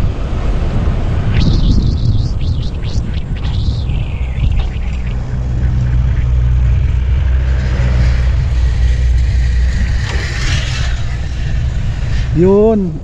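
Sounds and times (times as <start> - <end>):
scooter engine and road hum: 0.0 - 13.0.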